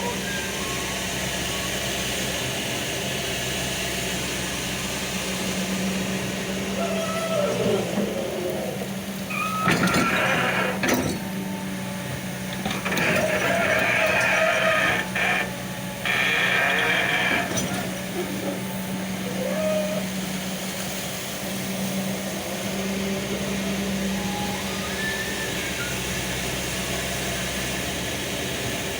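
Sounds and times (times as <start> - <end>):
excavator engine hum: 0.0 - 28.9.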